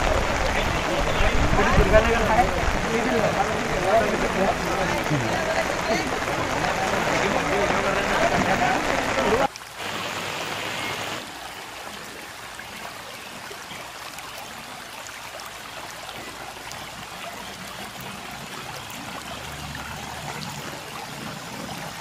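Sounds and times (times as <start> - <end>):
fast-flowing floodwater rushing: 0.0 - 22.0.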